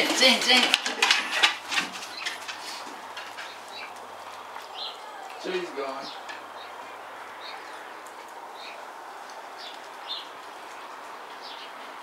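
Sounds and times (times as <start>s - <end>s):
steady outdoor hiss: 0.0s - 12.0s
small birds chirping: 1.3s - 12.0s.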